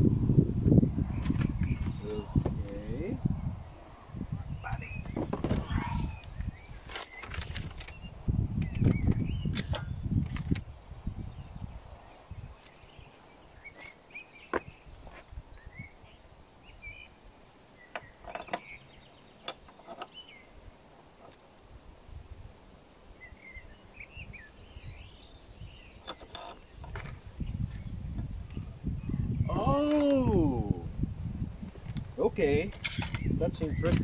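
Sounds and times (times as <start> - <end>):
small birds chirping: 1.0 - 21.8, 22.6 - 30.9, 31.6 - 34.0.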